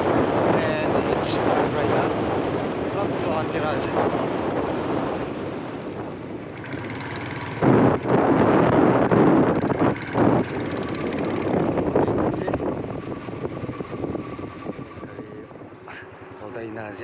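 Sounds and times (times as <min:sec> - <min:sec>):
vehicle road noise: 0:00.0 - 0:17.0
wind buffeting microphone: 0:00.0 - 0:17.0.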